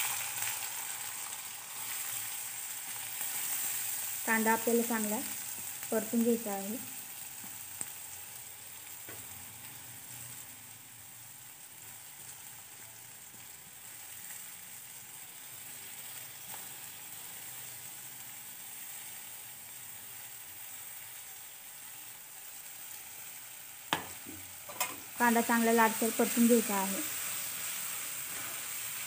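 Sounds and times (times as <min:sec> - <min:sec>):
onions sizzling in hot oil: 0:00.0 - 0:29.0.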